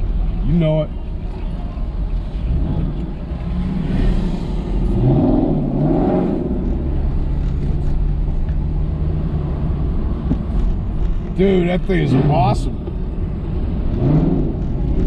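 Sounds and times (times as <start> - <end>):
road noise: 0.0 - 15.0
car engine accelerating: 1.0 - 15.0.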